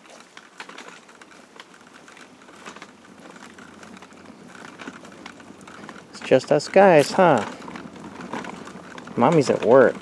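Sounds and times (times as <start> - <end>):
stroller wheels rattling: 0.0 - 10.0.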